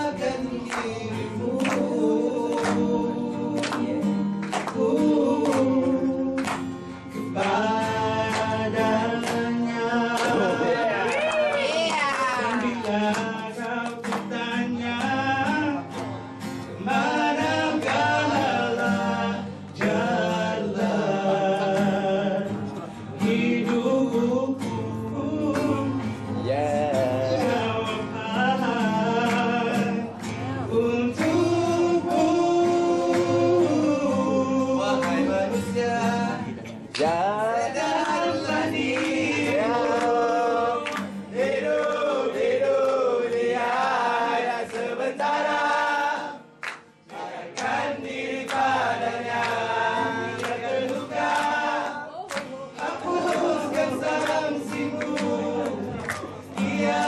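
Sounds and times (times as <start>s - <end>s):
acoustic guitar: 0.0s - 57.0s
men singing: 0.0s - 57.0s.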